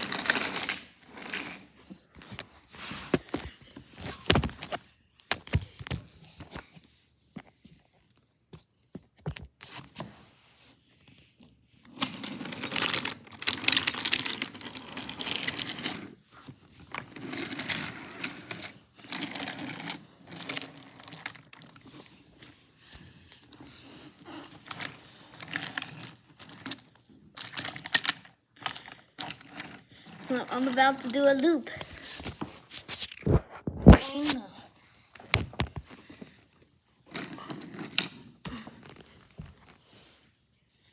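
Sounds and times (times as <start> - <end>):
small toys rustling and clicking: 0.0 - 39.9.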